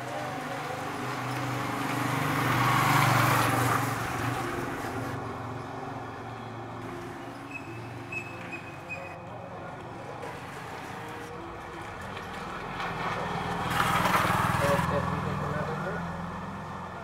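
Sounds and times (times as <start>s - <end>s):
vehicle passing on road: 0.0s - 9.0s, 10.2s - 17.0s.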